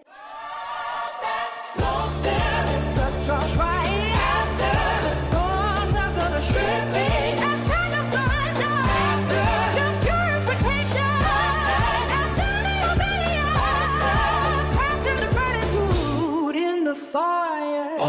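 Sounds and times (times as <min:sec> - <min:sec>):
pop song with vocals: 0:00.0 - 0:18.0.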